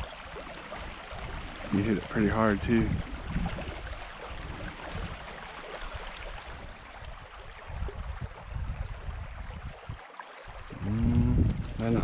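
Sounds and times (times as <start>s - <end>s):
creek running over stones: 0.0s - 12.0s
wind rumbling on microphone: 0.0s - 12.0s.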